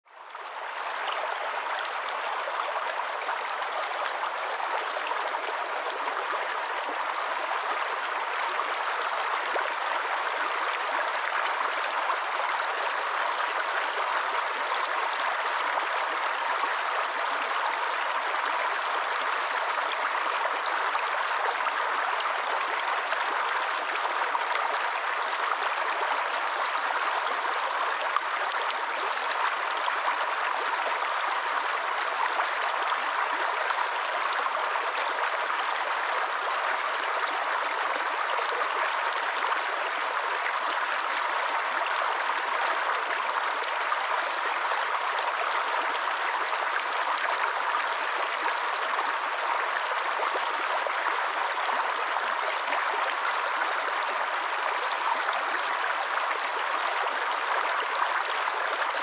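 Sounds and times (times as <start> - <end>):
stream running over stones: 0.3 - 59.0.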